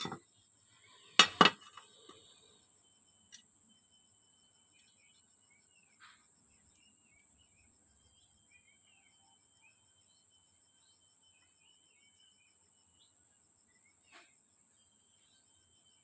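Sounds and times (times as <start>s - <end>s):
high insect trill: 0.0s - 16.0s
small birds chirping: 1.8s - 16.0s.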